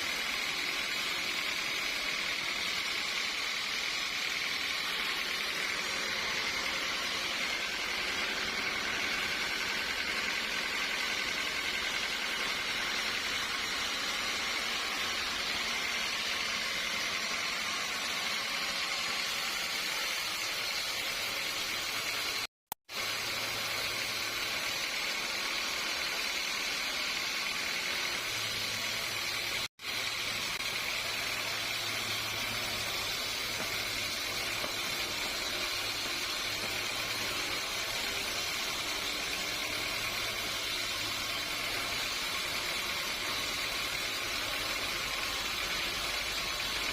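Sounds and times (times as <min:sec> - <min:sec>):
sawmill machinery hissing: 0:00.0 - 0:46.9.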